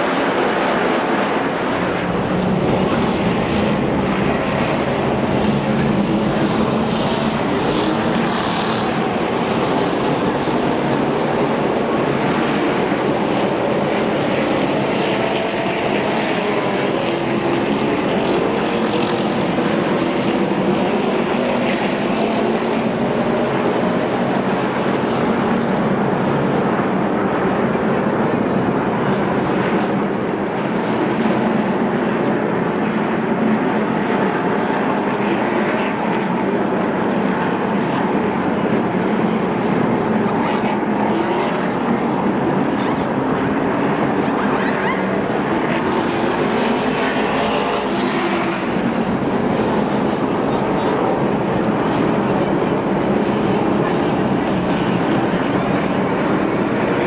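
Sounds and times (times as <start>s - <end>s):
racing truck engines droning: 0.0s - 57.0s.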